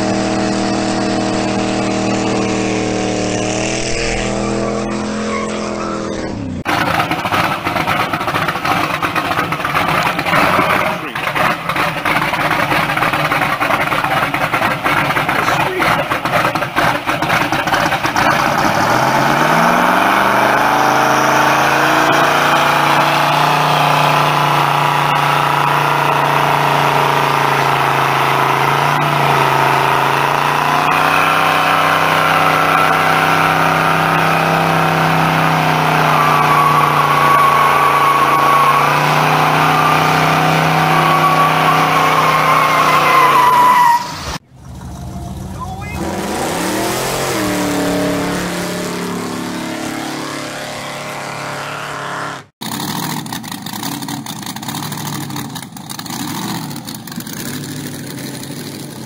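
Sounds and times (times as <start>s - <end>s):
engine revving: 0.0s - 59.0s
tyre squealing: 3.7s - 52.5s.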